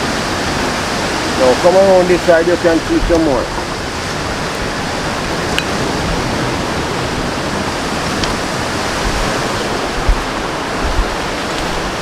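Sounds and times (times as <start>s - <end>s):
water rushing: 0.0s - 12.0s
wind rushing: 0.0s - 12.0s.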